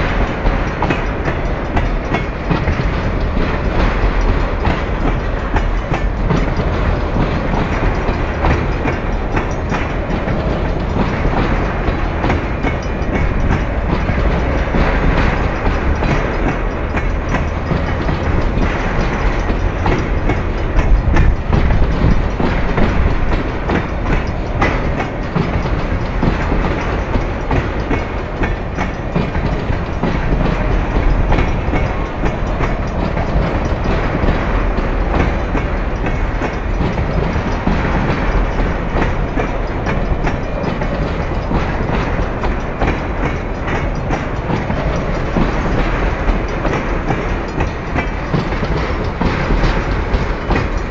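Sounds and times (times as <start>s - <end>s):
train wheels rumbling on rail: 0.0s - 50.9s
wheels clacking over rail joints: 0.0s - 50.9s.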